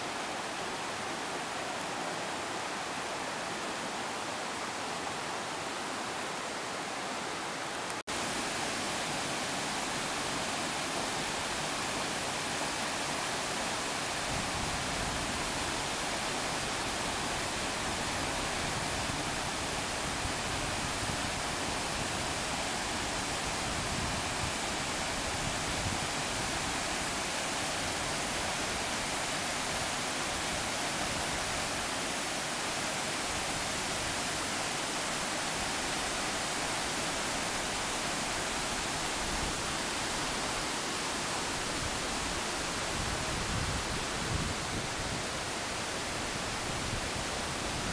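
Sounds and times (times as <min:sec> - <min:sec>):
whitewater roaring: 0:07.5 - 0:47.9.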